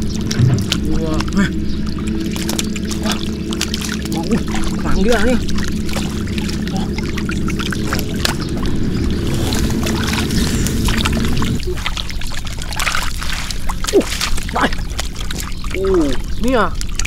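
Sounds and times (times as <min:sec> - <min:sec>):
low hum: 0:00.0 - 0:17.0
water splashing: 0:00.0 - 0:17.0.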